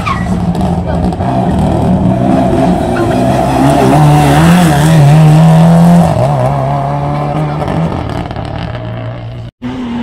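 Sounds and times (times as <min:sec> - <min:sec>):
race car engine revving: 0:00.0 - 0:10.0.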